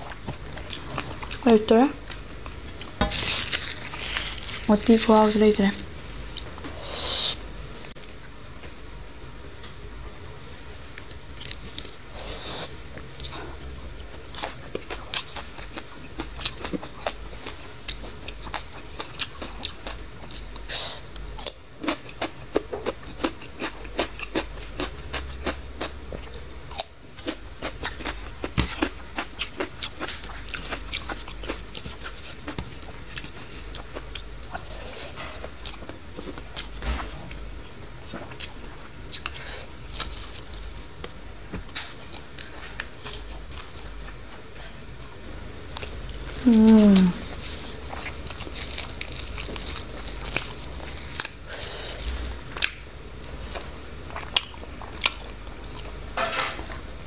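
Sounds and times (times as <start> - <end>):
chewing and crunching food: 0.0 - 6.8, 10.9 - 12.0, 12.9 - 56.9.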